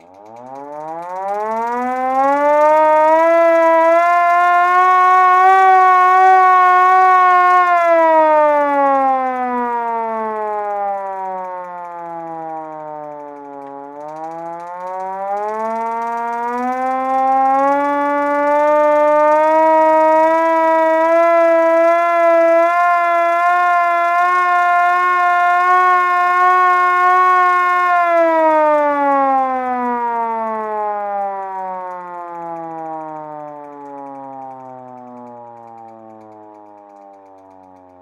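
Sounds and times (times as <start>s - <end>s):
fire truck siren wailing: 0.1s - 38.0s.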